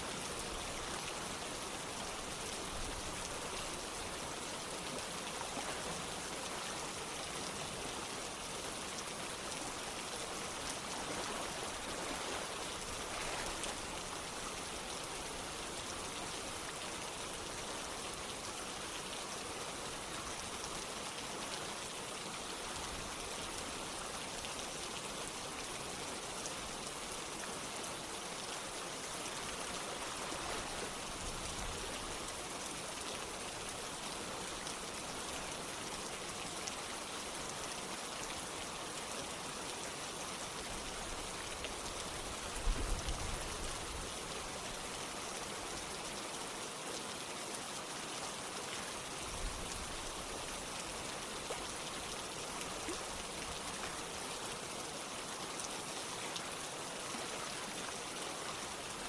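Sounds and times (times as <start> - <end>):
running water: 0.0 - 59.0
steady rain falling: 0.0 - 59.0.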